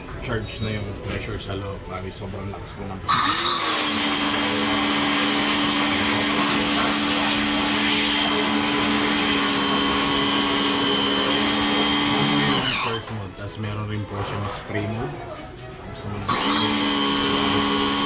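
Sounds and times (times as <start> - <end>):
pressure washer motor humming: 0.0 - 18.0.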